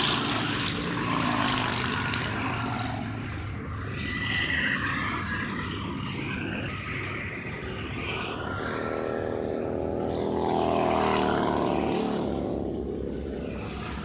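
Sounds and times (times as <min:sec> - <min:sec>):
motorcycle passing by: 0:00.0 - 0:14.0.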